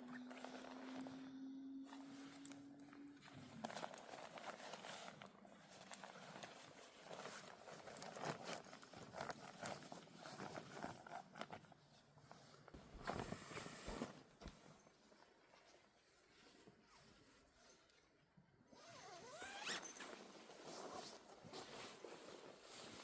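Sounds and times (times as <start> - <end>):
rustling handling noises: 0.0 - 18.2, 18.8 - 23.0.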